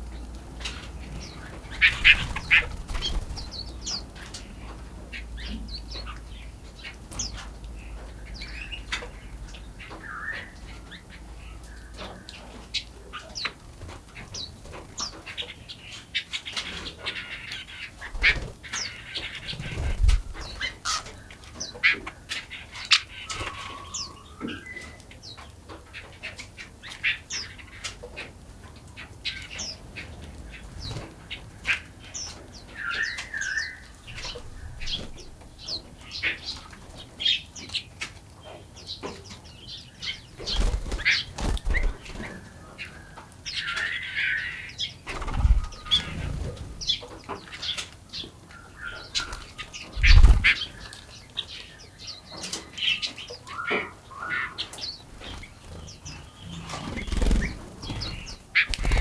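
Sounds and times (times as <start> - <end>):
small birds chirping and singing: 0.0 - 59.0.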